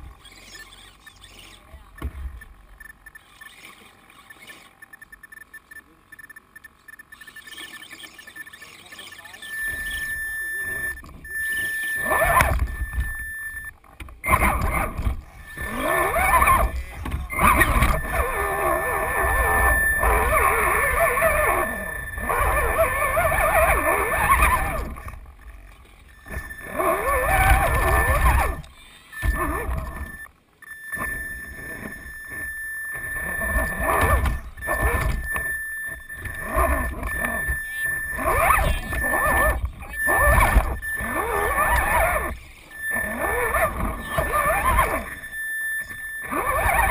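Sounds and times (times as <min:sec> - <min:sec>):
rc truck motor and gears whining: 0:00.0 - 0:46.9.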